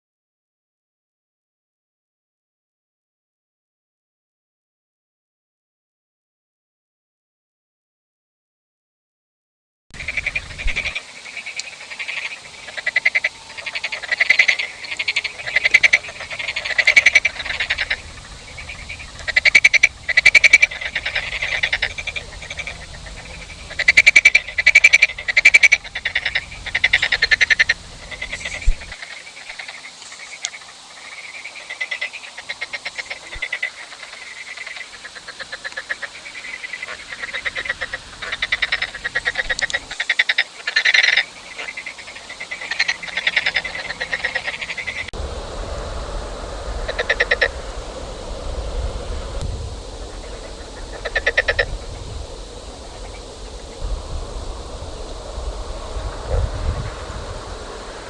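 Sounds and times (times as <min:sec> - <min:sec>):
frogs croaking chorus: 0:10.0 - 0:58.0.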